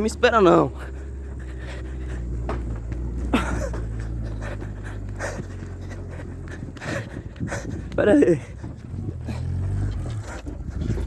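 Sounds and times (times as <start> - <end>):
car engine humming: 0.0 - 11.0
person panting hard: 0.7 - 11.0.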